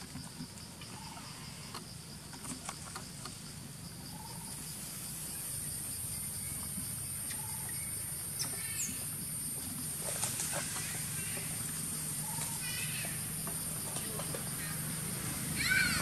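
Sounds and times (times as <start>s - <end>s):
high insect drone: 0.0s - 16.0s
insects chirping in pulsing trill: 0.0s - 16.0s.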